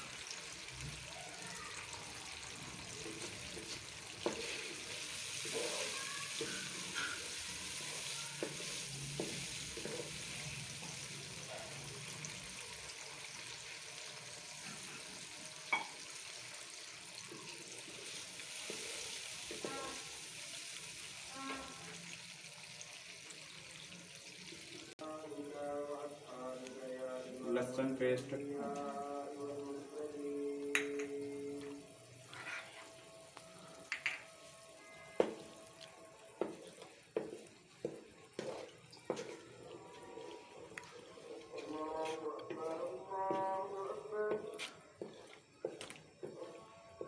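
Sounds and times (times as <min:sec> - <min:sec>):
onions sizzling in oil: 0:00.0 - 0:40.0.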